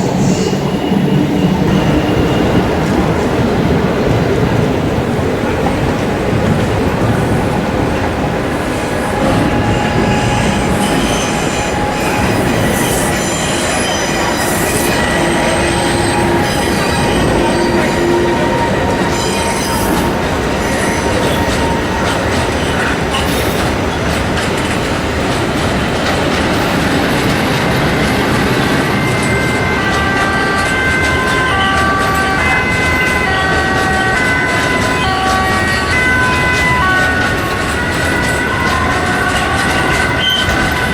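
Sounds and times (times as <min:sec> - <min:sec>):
train wheels squealing and clattering: 0:00.0 - 0:03.4, 0:05.6 - 0:40.9.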